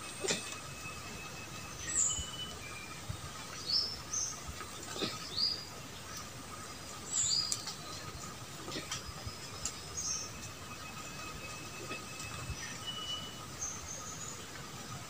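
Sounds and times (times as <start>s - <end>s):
birds chirping: 0.0s - 15.0s
faint steady hum: 0.0s - 15.0s.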